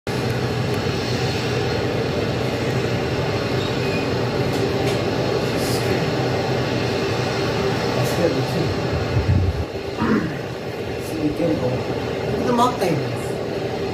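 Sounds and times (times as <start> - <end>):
rocket engine roaring: 0.1 - 13.9.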